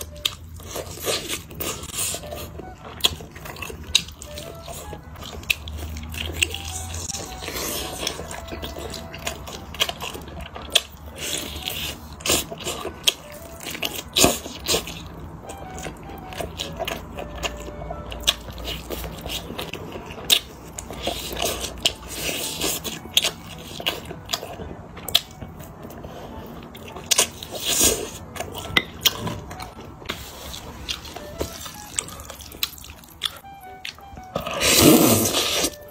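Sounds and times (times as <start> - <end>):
chewing with wet mouth smacks: 0.0 - 35.9.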